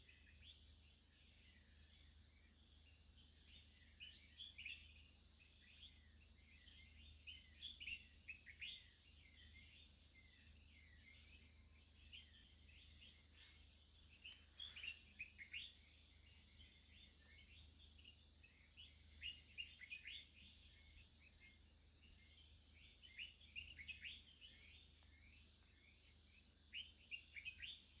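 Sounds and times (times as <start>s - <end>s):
small birds chirping: 0.0s - 28.0s
insects trilling: 0.3s - 28.0s.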